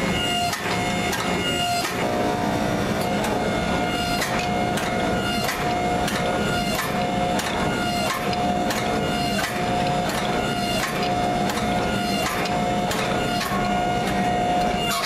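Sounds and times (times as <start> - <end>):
motor and pump whine: 0.0 - 15.0.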